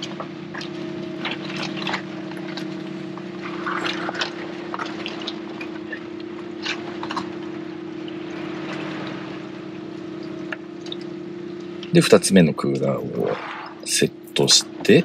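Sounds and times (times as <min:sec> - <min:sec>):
seawater splashing: 0:00.0 - 0:12.0, 0:13.2 - 0:13.9
boat engine humming: 0:00.0 - 0:15.0.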